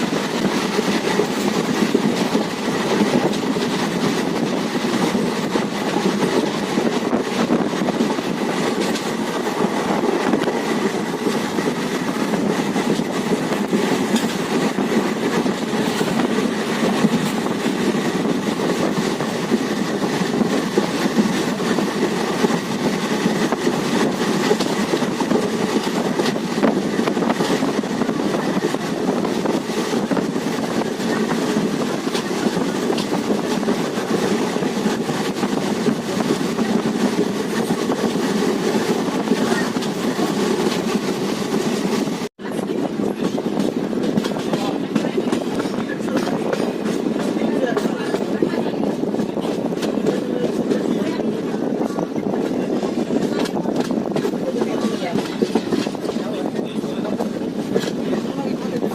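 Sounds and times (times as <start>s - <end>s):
train rumbling on track: 0.0s - 58.9s
wheels rattling on rails: 0.0s - 58.9s.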